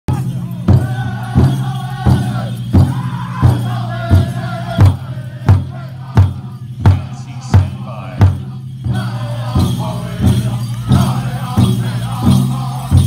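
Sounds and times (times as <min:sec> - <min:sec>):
big drum beating: 0:00.1 - 0:13.0
singers high wavering song: 0:00.2 - 0:13.0.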